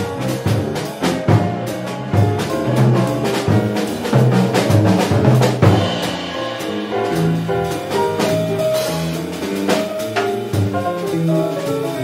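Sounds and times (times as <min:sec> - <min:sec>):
electric bass line: 0:00.0 - 0:11.5
drum kit and cymbal hits: 0:00.0 - 0:12.0
grand piano: 0:00.0 - 0:12.0.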